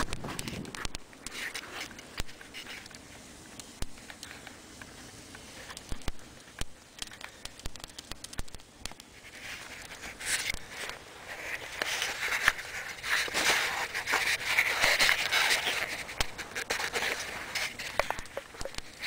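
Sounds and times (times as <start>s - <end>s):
faint hiss: 0.0s - 19.0s
wood fire crackling: 0.0s - 19.0s.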